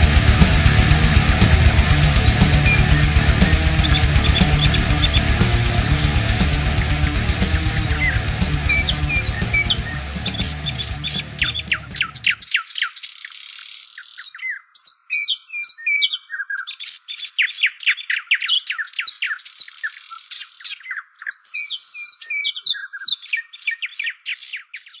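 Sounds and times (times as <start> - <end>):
small birds chirping: 1.2 - 25.0.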